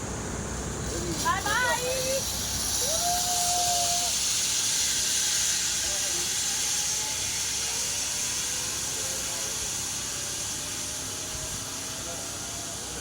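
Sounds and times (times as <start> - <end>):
zipline trolley hissing on cable: 0.0 - 13.0.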